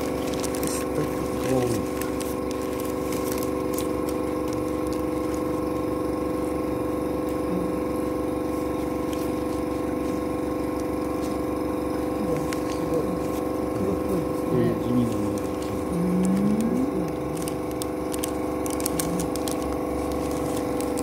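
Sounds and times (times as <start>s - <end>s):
paper clicks: 0.0s - 5.8s, 8.7s - 13.6s, 14.8s - 21.0s
small motor humming: 0.0s - 21.0s.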